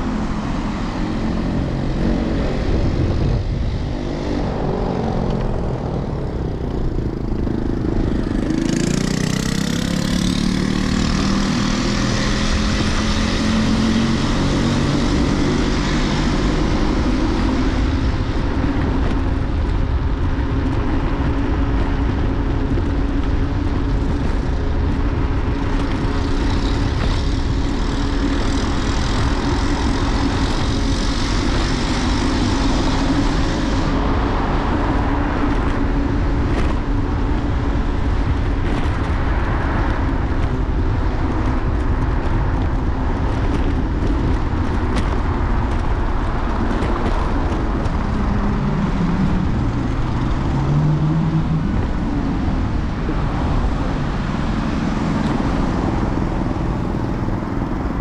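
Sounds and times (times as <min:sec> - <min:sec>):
cars passing: 0:00.0 - 0:58.0
road noise: 0:00.0 - 0:58.0
wind rumble on microphone: 0:00.0 - 0:58.0.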